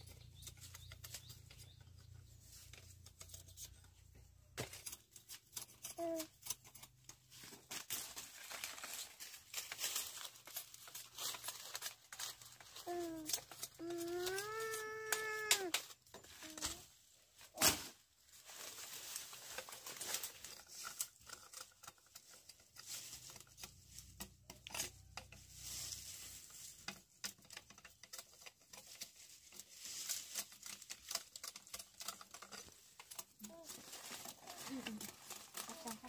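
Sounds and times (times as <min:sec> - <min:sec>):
rustling with crackles: 0:00.0 - 0:36.0.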